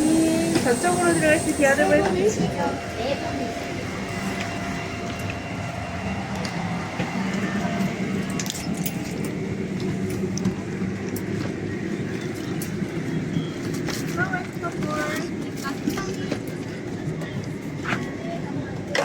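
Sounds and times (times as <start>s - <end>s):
aircraft cabin hum: 0.0s - 18.9s.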